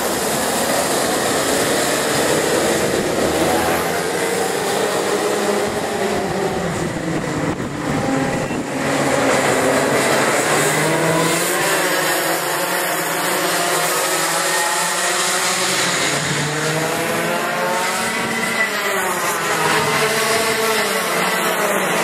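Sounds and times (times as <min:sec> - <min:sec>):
racing kart engines: 0:00.0 - 0:22.0.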